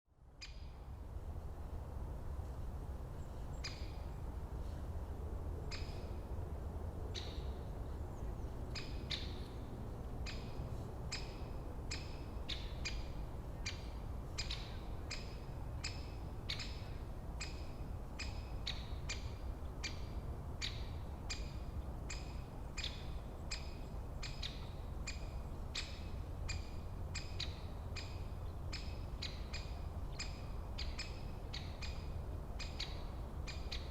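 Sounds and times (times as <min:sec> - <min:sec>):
low forest rumble: 0:00.7 - 0:33.8.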